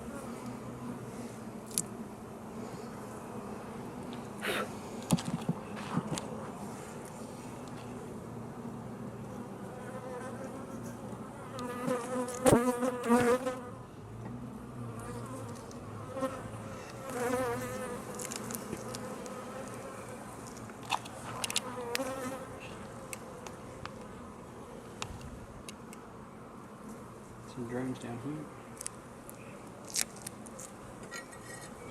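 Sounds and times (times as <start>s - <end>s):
honey bees buzzing: 0.0s - 27.4s.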